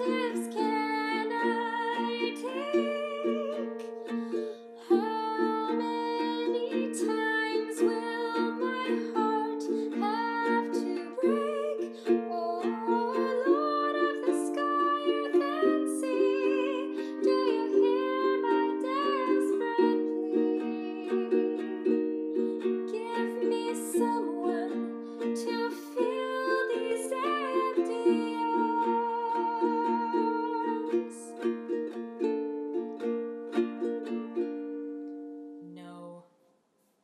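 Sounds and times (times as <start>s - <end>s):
person singing with vibrato: 0.0s - 31.8s.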